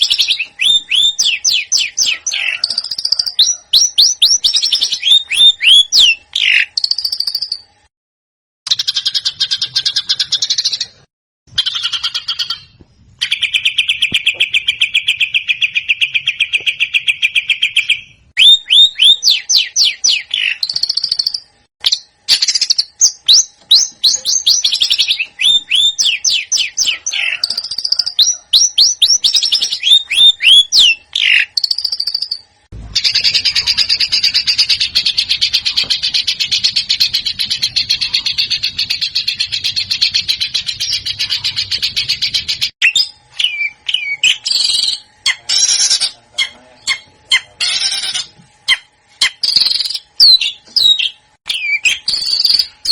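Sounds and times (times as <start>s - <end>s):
songbird trill: 0.0s - 7.7s, 11.6s - 52.9s
chattering birdsong: 0.0s - 7.8s, 8.7s - 52.9s.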